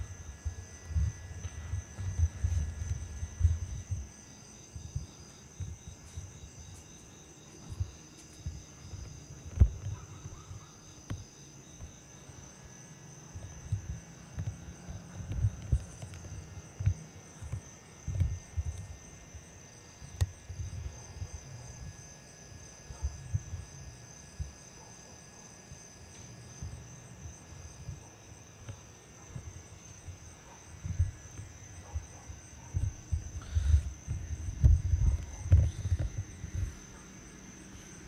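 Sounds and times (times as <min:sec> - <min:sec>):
crickets chirring: 0:00.0 - 0:38.0.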